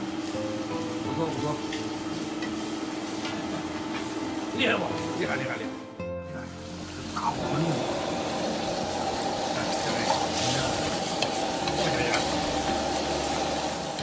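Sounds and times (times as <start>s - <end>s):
meat bubbling and sizzling in wok: 0.0s - 5.9s, 6.5s - 14.0s.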